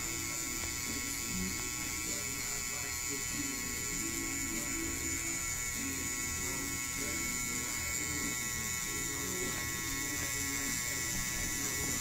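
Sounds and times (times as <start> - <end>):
tattoo pen motor running: 0.0 - 12.0.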